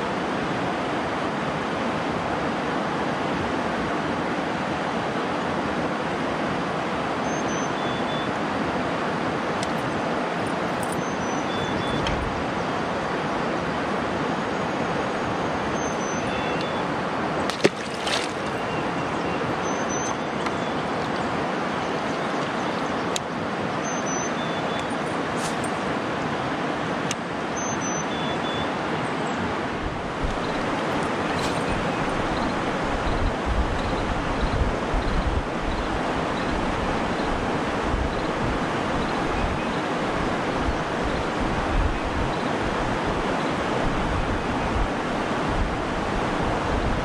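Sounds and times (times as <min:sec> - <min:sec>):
river water rushing over rocks: 0:00.0 - 0:47.0.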